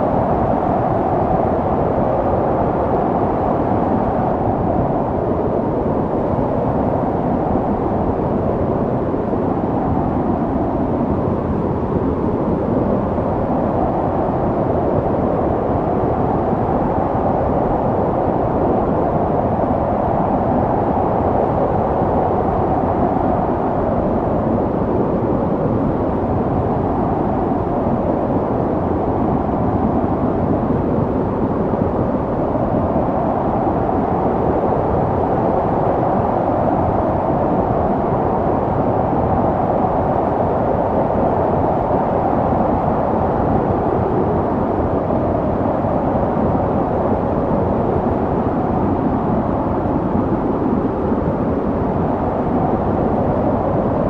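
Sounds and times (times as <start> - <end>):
snowstorm wind blowing: 0.0 - 54.0.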